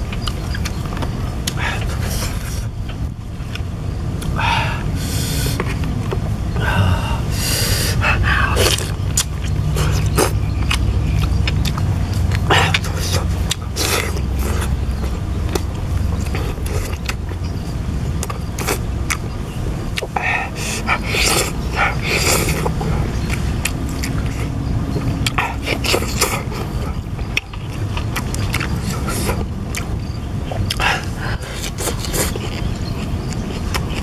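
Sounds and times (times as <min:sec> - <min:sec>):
wet chewing and lip smacks: 0:00.0 - 0:04.4, 0:08.0 - 0:34.0
low steady rumble: 0:00.0 - 0:34.0.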